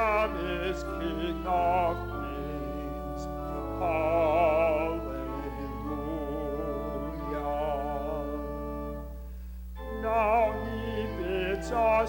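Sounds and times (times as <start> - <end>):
hymn music with vibrato melody: 0.0 - 12.0.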